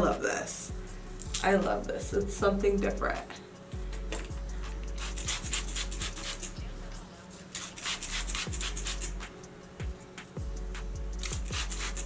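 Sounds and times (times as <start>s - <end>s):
background music with deep bass beat: 0.0s - 12.0s.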